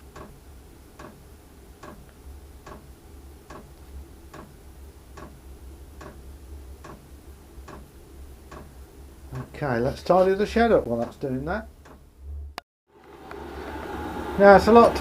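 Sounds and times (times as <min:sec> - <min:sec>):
heater fan drone: 0:00.0 - 0:15.0.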